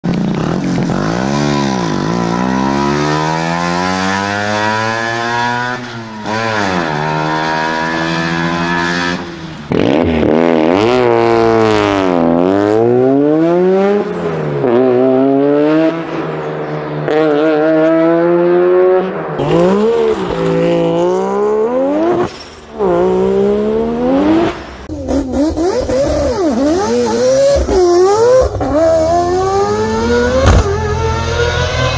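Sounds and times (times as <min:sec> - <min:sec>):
rotary engines revving: 0:00.2 - 0:31.9.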